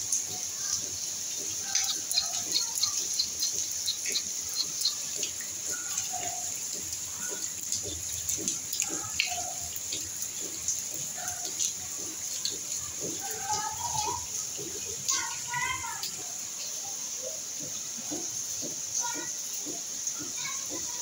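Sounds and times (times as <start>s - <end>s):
steady rain hiss: 0.0s - 21.0s
water drips landing close: 0.0s - 21.0s.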